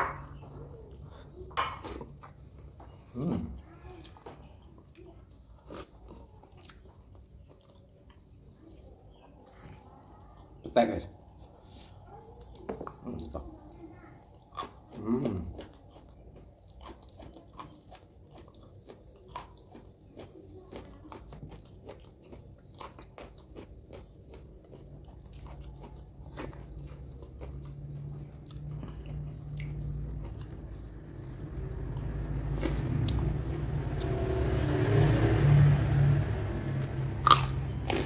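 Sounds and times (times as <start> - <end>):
crunchy chewing of vegetables: 0.0 - 38.0.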